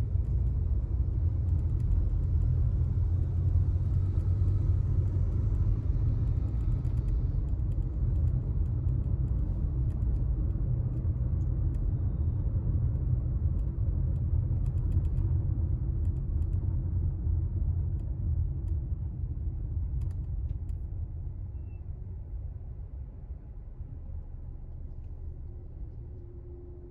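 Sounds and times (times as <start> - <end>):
car engine rumble: 0.0 - 26.9.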